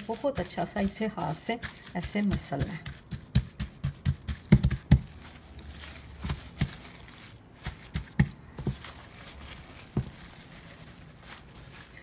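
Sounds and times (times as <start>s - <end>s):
cling film crinkling: 0.0s - 2.6s, 4.8s - 12.0s
soft thumps of hands patting dough: 0.0s - 10.8s.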